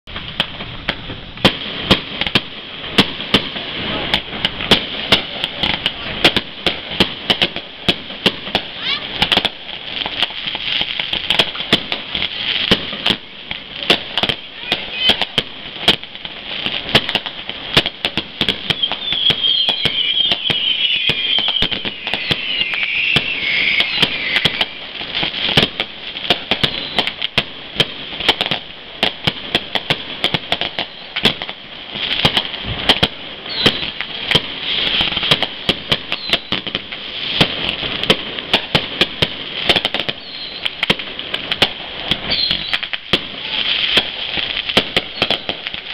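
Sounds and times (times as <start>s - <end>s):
crackling hiss: 0.1s - 45.9s
fireworks bangs and pops: 0.1s - 45.9s
loud firework reports: 0.1s - 45.9s.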